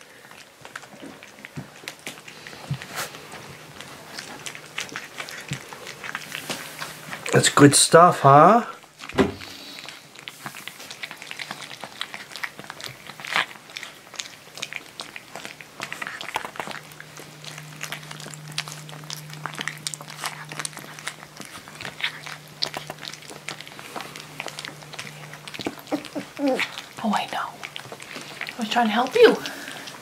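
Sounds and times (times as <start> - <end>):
puppies chewing and licking: 0.0 - 30.0.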